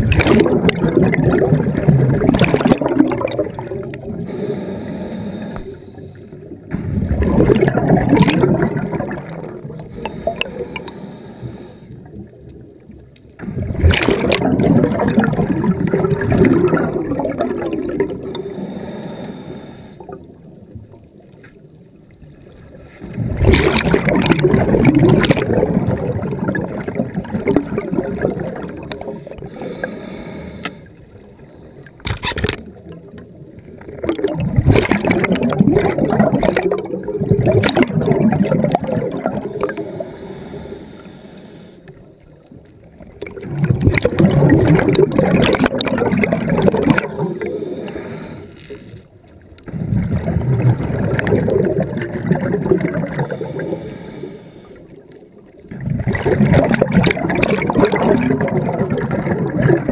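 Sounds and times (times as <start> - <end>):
diver exhaling bubbles: 0.0 - 11.8, 13.4 - 20.2, 23.0 - 31.2, 33.7 - 41.4, 43.0 - 49.0, 49.6 - 54.8, 55.6 - 59.9.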